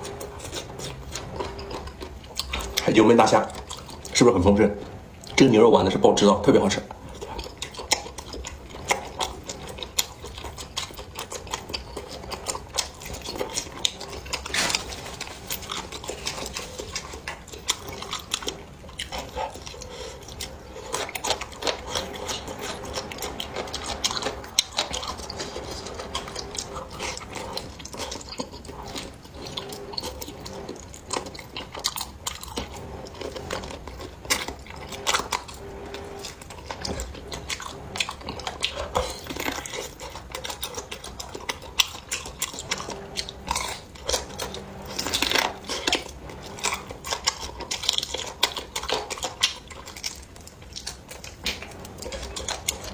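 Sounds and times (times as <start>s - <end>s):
person chewing and biting food: 0.0s - 4.2s, 6.8s - 52.9s.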